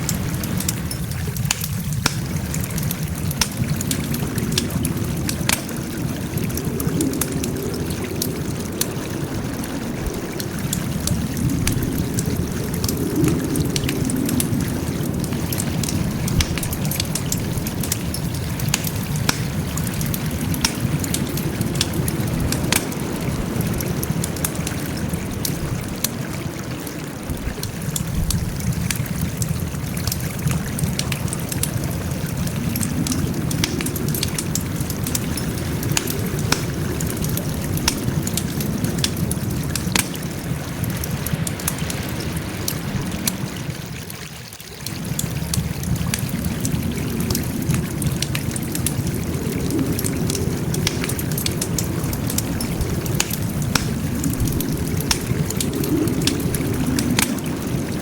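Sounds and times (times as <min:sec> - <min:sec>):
wood fire popping: 0:00.0 - 0:43.6, 0:44.9 - 0:58.0.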